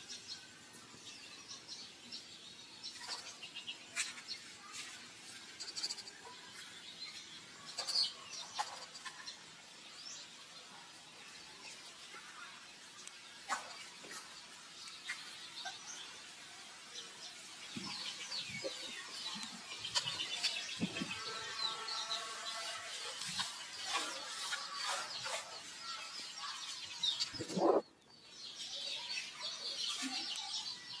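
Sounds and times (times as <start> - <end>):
birds chirping: 1.0 - 31.0.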